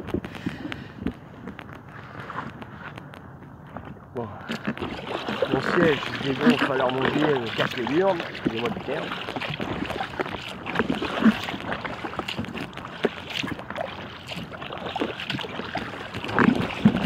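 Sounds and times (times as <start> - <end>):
water lapping against kayak: 0.0 - 17.0.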